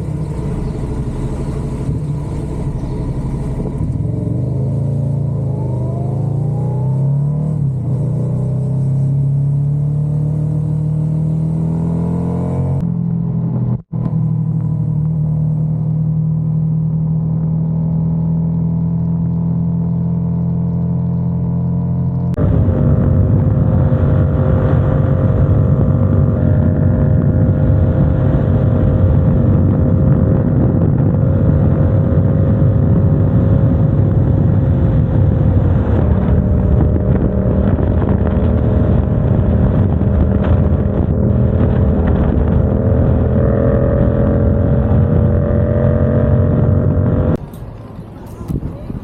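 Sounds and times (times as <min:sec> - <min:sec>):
motorcycle engine running: 0:00.0 - 0:09.9, 0:12.7 - 0:49.0
wind and road noise rumble: 0:00.0 - 0:49.0.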